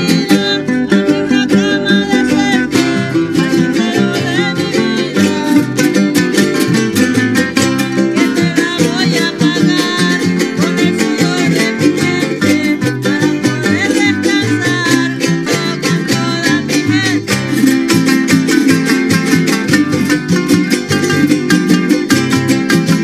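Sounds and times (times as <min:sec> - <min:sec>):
guitar picking melody: 0:00.0 - 0:23.0
plucked bass line: 0:00.0 - 0:23.0
strummed strings quick rhythm: 0:00.0 - 0:23.0.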